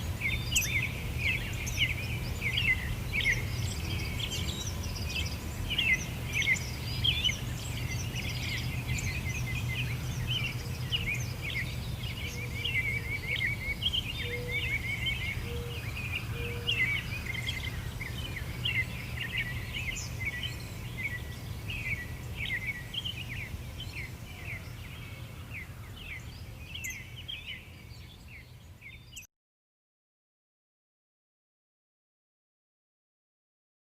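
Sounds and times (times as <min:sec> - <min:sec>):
birds chirping and singing: 0:00.0 - 0:29.3.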